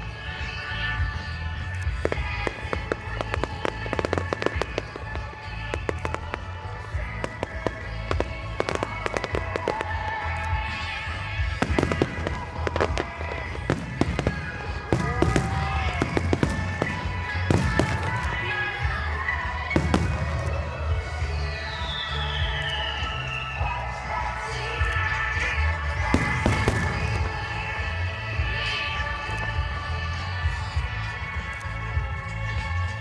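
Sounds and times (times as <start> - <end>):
fireworks cracking and banging: 0.0 - 33.0
music playing: 0.0 - 33.0.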